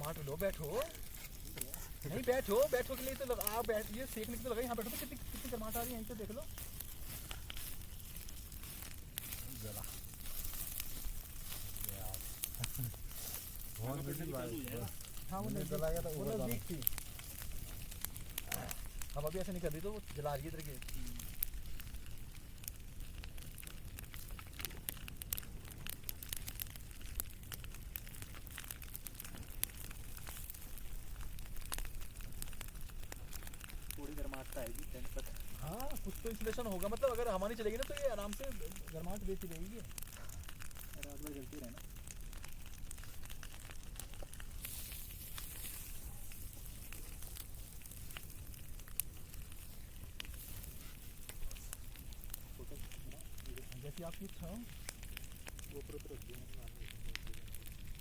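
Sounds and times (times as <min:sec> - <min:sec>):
campfire crackling and popping: 0:00.0 - 0:58.0
fire hissing: 0:00.0 - 0:58.0.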